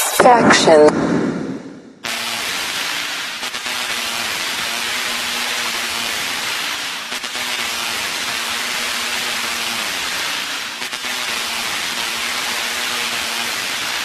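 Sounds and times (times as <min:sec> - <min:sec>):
electronic dance music: 0:00.0 - 0:01.0, 0:02.0 - 0:13.4
white-noise sweep: 0:00.0 - 0:14.0.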